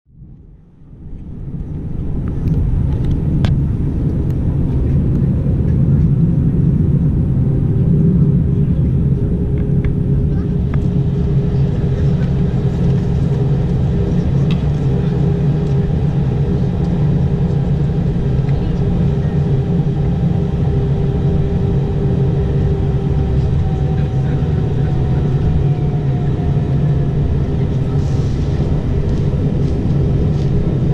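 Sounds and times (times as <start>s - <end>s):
jet engines rumbling: 0.2s - 30.9s.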